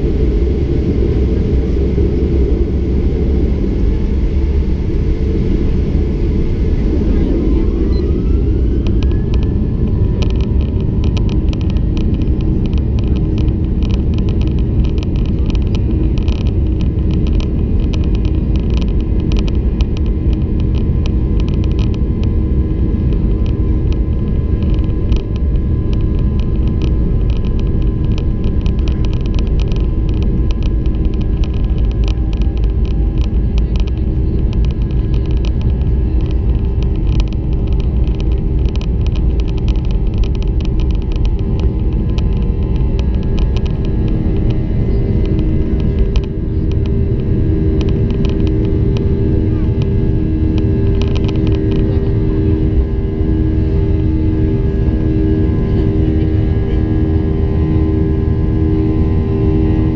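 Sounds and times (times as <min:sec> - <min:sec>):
jet engines rumbling and whining: 0:00.0 - 0:59.9.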